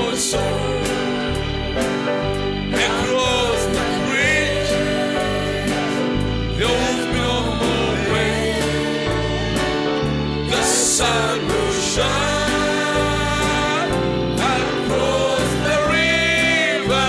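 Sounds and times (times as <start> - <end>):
gospel band playing: 0.0 - 17.0
stepping bass line: 0.0 - 17.0.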